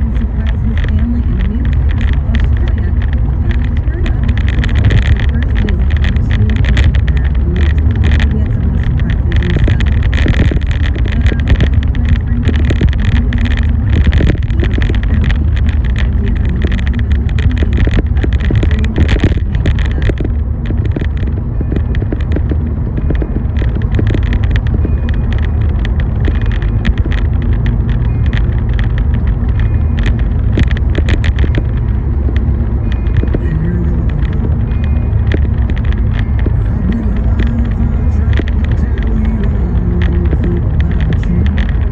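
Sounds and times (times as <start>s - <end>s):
car road rumble: 0.0s - 41.9s
raindrops pattering on car: 0.0s - 41.9s.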